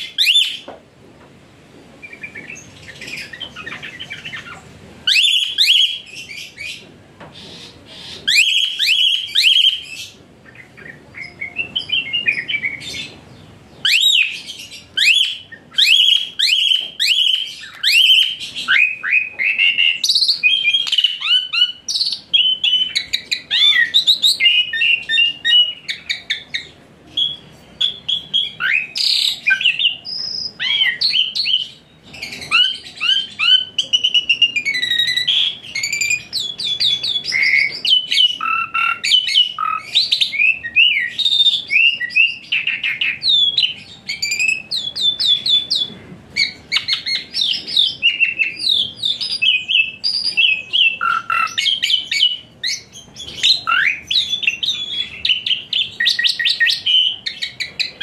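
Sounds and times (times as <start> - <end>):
songbird singing: 0.0 - 0.8, 2.0 - 58.0.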